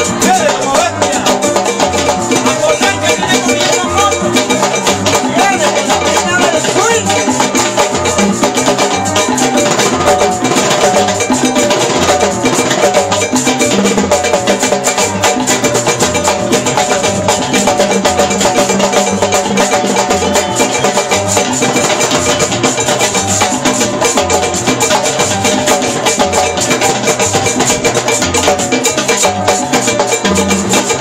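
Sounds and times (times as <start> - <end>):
congas and timbales beating: 0.0 - 31.0
latin percussion band playing: 0.0 - 31.0
sharp percussive hits: 0.0 - 31.0.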